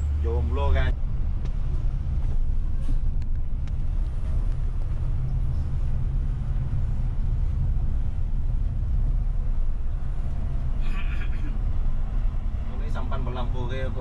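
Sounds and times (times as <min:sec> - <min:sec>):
coach engine and tyres rumbling: 0:00.0 - 0:14.0.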